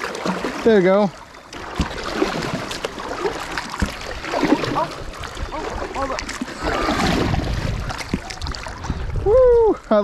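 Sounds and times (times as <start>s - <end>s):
paddles splashing in water: 0.0s - 10.0s
water noise: 0.0s - 10.0s.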